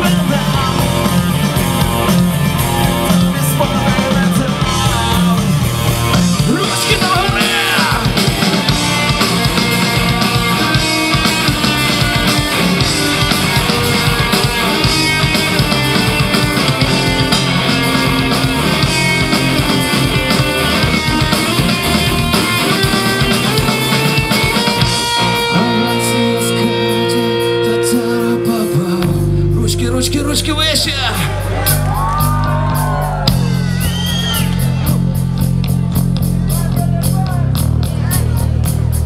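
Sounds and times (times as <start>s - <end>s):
distorted electric guitars: 0.0s - 39.0s
drum kit beat: 0.0s - 39.0s.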